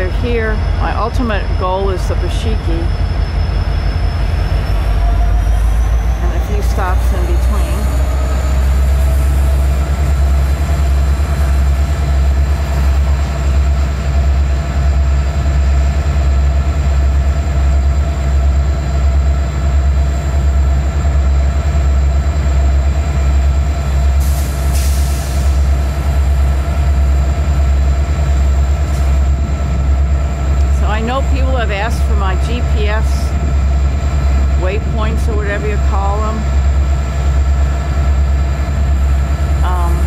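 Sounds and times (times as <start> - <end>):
diesel engine drone: 0.0 - 40.0.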